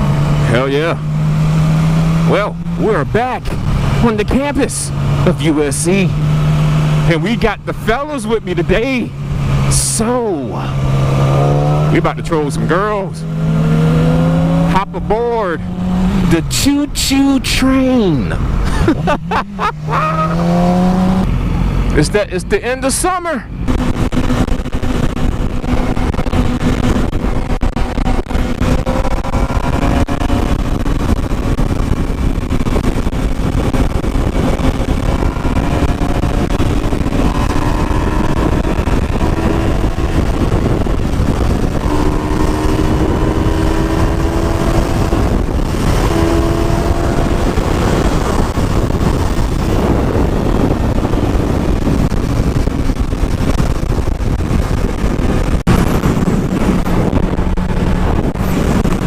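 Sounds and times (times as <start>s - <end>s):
motorcycle engine accelerating: 0.0s - 59.0s
wind rushing over microphone: 0.0s - 59.0s.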